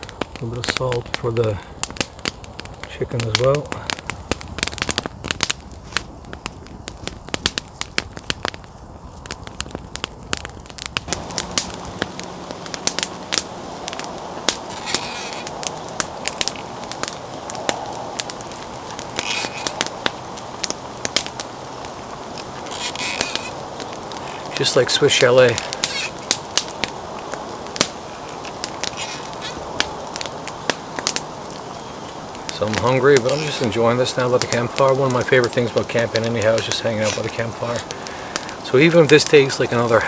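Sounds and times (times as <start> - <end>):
campfire crackling: 0.0 - 40.0
steady hiss: 0.0 - 40.0.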